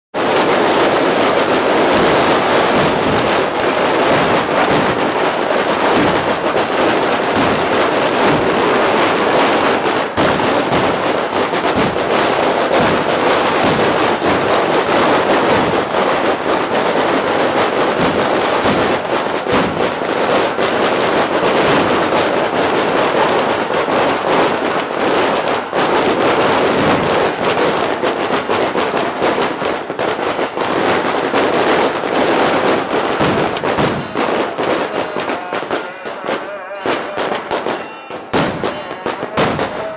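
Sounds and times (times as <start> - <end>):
fireworks crackling: 0.1 - 39.9.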